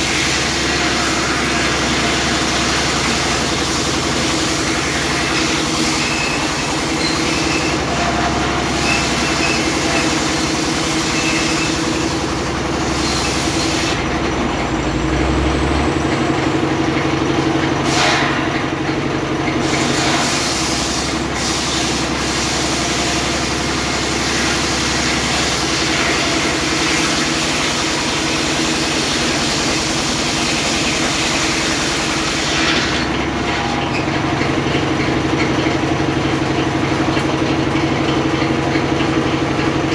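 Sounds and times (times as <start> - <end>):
engine-driven circular saw: 0.0 - 39.9.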